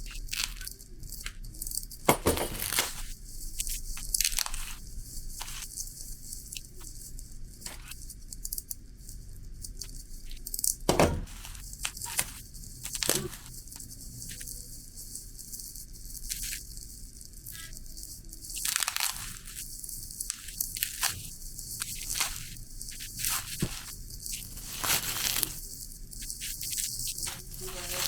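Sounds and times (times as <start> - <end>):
rustling and crinkling: 0.0 - 28.0.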